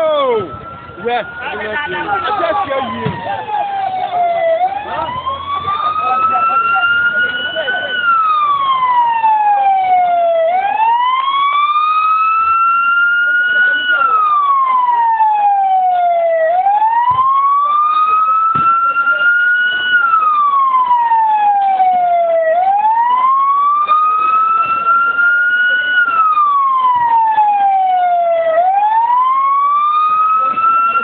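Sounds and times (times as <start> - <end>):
emergency siren wailing: 0.0 - 31.0.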